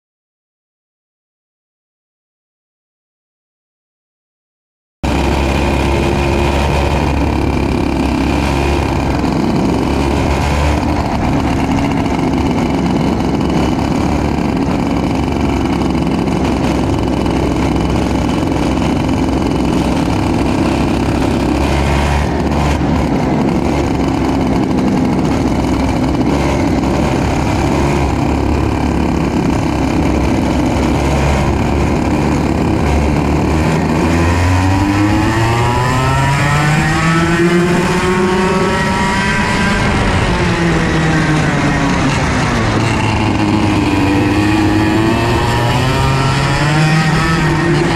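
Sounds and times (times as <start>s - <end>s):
kart engine running: 5.0s - 47.9s.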